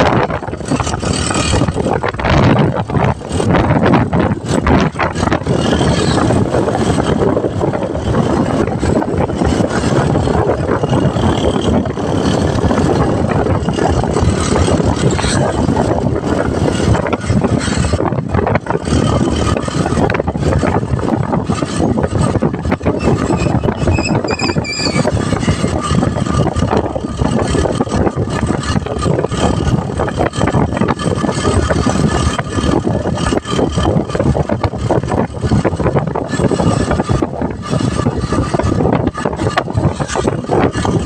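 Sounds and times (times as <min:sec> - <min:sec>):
motorcycle engine running: 0:00.0 - 0:41.0
road noise: 0:00.0 - 0:41.0
wind rush: 0:00.0 - 0:41.0.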